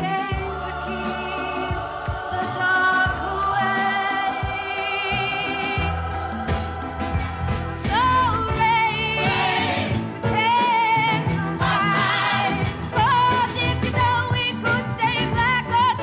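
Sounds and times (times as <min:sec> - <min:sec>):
woman singing lead vocal: 0:00.0 - 0:06.6, 0:07.7 - 0:16.0
gospel choir singing: 0:00.0 - 0:14.0
acoustic guitar: 0:00.0 - 0:16.0.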